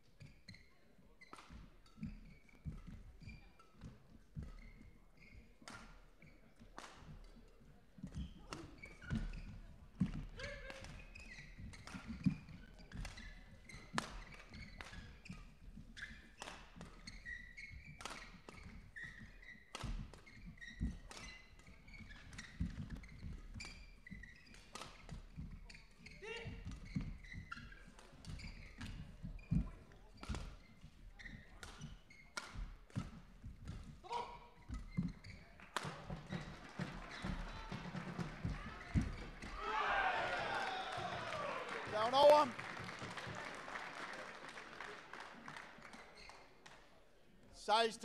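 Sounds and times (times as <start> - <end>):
shoes squeaking on court: 0.0 - 46.8.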